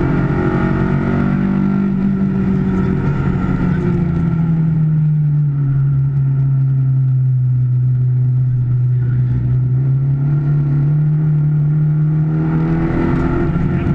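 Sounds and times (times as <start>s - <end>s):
car engine from inside cabin: 0.0s - 13.9s.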